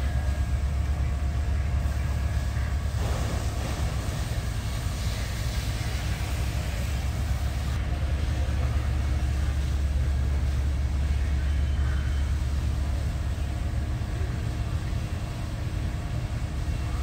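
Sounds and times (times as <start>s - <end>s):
diesel engines low rumble: 0.0s - 17.0s.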